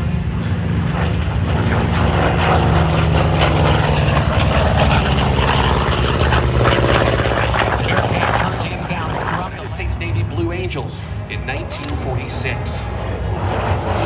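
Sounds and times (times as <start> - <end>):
piston aircraft engine flying by: 0.0 - 14.0.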